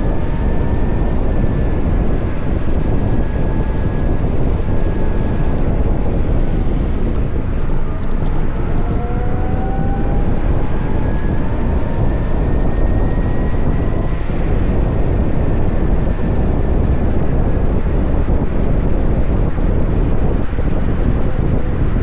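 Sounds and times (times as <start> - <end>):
electric motor whine: 0.0 - 18.5
road rumble: 0.0 - 22.0
wind rushing over microphone: 0.0 - 22.0.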